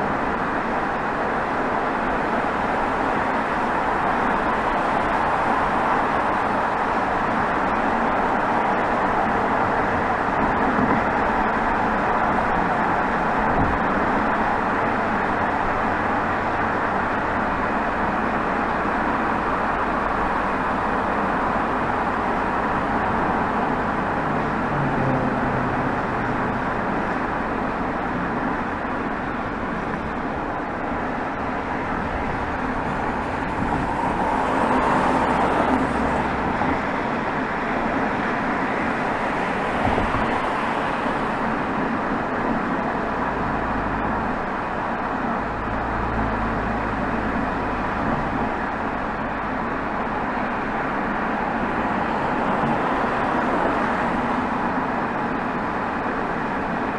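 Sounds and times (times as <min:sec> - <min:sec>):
diesel car exhaust: 0:00.0 - 0:56.9
tyre and road noise: 0:00.0 - 0:56.9.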